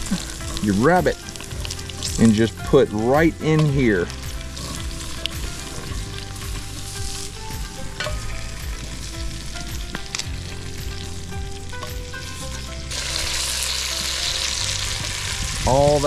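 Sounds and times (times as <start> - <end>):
meat sizzling in fat: 0.0 - 16.0.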